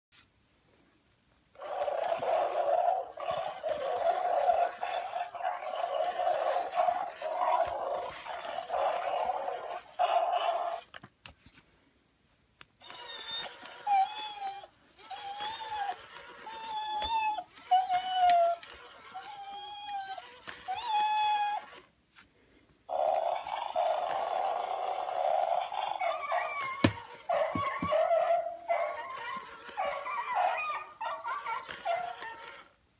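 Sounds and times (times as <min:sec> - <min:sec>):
toy dog growling through speaker: 0:01.6 - 0:11.0, 0:12.8 - 0:21.9, 0:22.9 - 0:32.8.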